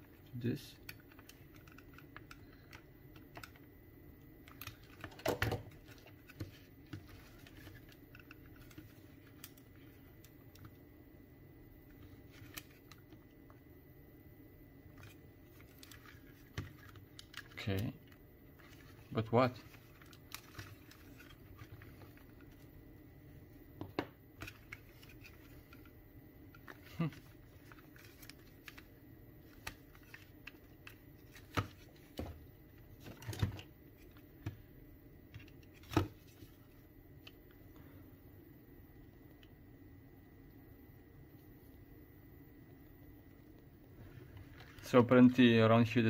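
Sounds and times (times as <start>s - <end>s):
low room noise: 0.0s - 46.0s.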